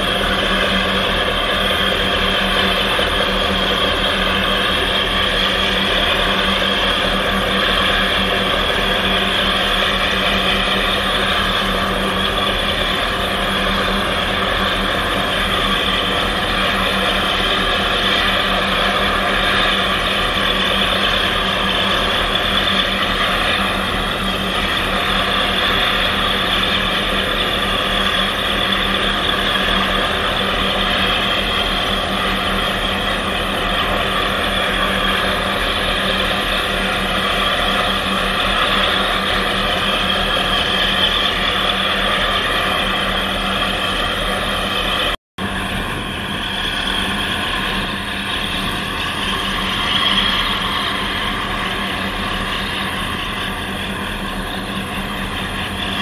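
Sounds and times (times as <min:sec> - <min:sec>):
boat diesel engine running: 0:00.0 - 0:56.0.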